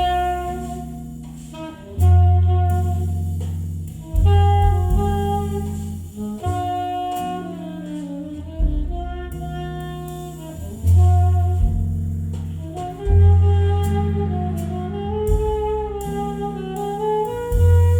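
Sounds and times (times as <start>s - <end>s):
alto saxophone melody: 0.0s - 17.9s
deep bass notes: 0.0s - 17.9s.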